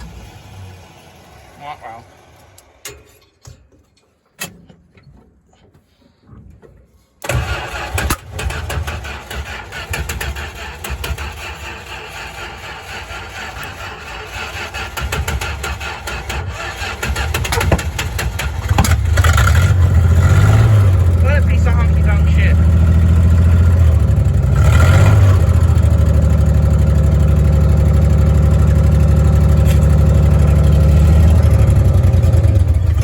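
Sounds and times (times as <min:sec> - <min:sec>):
truck engine starting and running: 0:00.0 - 0:04.8, 0:07.2 - 0:33.0.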